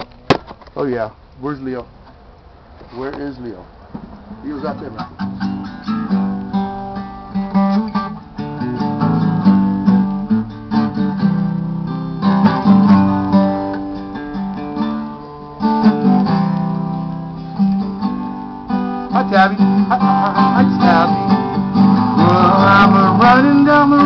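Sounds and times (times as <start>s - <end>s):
acoustic guitar strumming: 4.0s - 24.0s.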